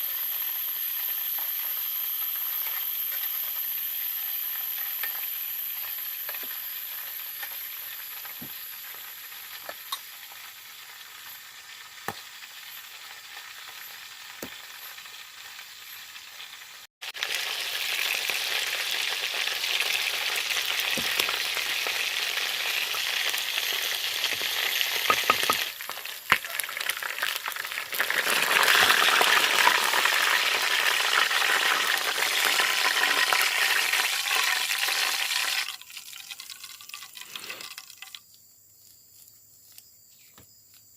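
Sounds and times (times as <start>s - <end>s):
food sizzling in a pan: 0.0s - 38.3s
frying crackles: 0.0s - 38.4s.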